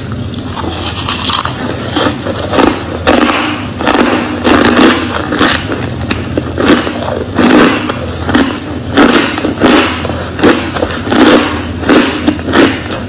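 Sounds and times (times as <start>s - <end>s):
crushed ice being chewed: 0.0s - 13.0s.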